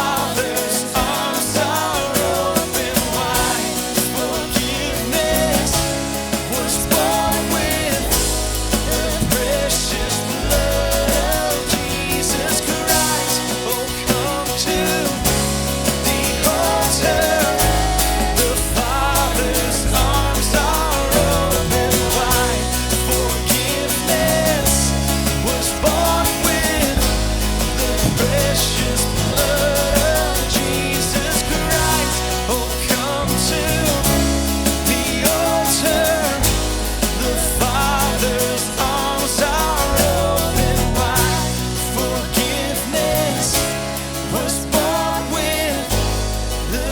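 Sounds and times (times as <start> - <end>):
person singing: 0.0 - 46.9
worship band playing: 0.0 - 46.9.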